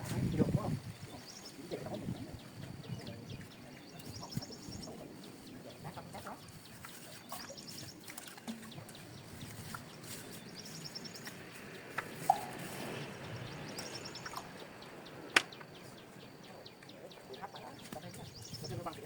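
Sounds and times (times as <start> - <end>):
outdoor background noise: 0.0 - 19.0
small birds chirping: 0.0 - 19.0.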